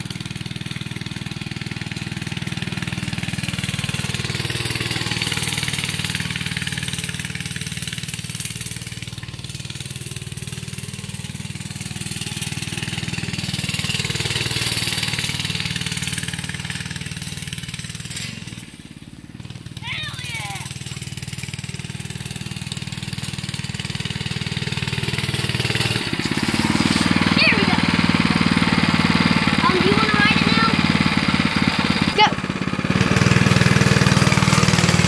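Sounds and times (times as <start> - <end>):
small four-stroke engine running: 0.0 - 35.0.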